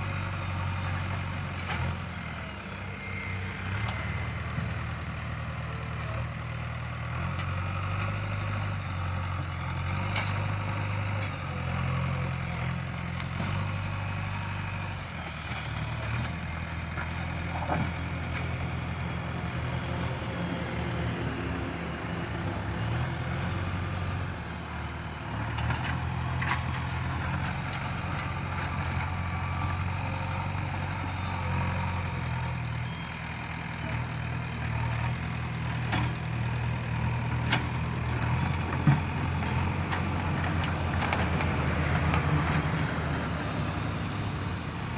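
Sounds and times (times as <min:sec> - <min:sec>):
heavy diesel engine droning: 0:00.0 - 0:44.9.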